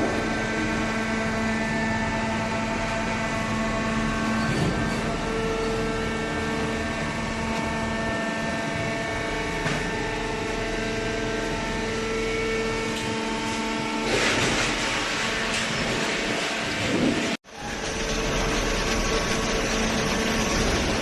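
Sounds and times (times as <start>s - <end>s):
baler motor and pump hum: 0.0s - 21.0s.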